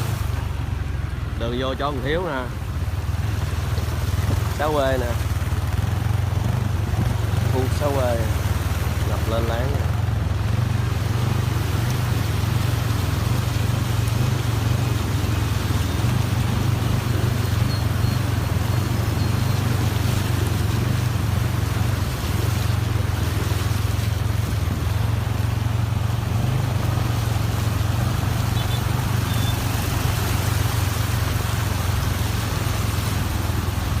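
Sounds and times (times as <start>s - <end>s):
rain: 0.0s - 34.0s
tyres on a wet road: 0.0s - 34.0s
vehicle engine droning: 0.0s - 34.0s
wind: 0.0s - 34.0s.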